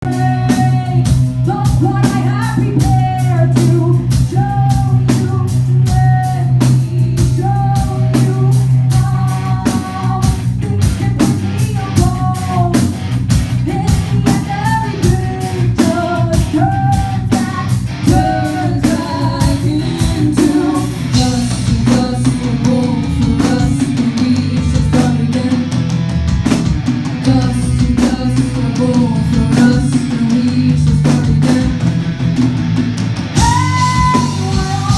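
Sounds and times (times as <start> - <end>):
person singing: 0.0 - 13.0, 13.6 - 25.9, 27.2 - 32.3, 33.4 - 34.9
bass guitar: 0.0 - 34.9
drum kit: 0.0 - 34.9
electric guitar: 0.0 - 34.9.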